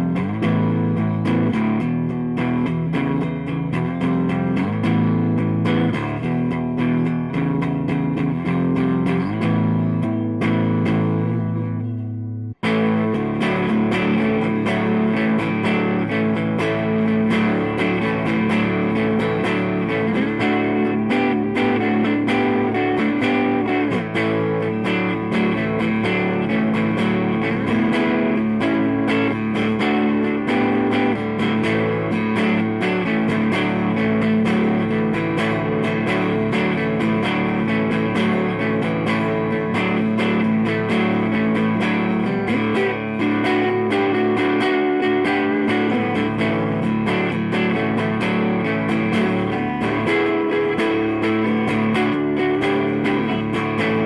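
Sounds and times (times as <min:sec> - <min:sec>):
electric guitar playing notes and chords: 0:00.0 - 0:54.0.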